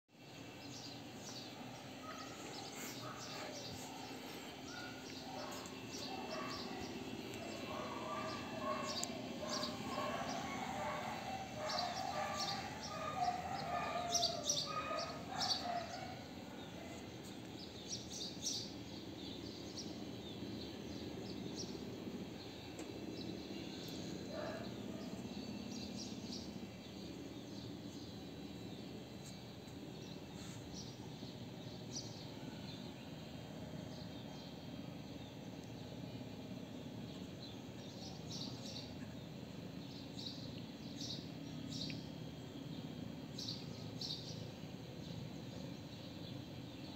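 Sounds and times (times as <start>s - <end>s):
low background hum: 0.2s - 46.9s
small birds chirping: 0.2s - 46.9s.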